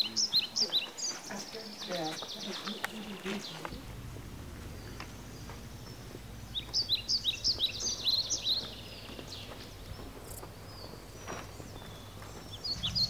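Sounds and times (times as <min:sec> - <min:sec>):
low background noise: 0:00.0 - 0:13.0
songbird chirps: 0:00.0 - 0:13.0.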